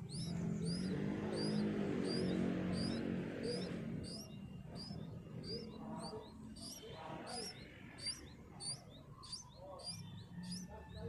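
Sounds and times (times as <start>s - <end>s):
low drone: 0.0s - 10.6s
bird chirping: 0.0s - 11.0s.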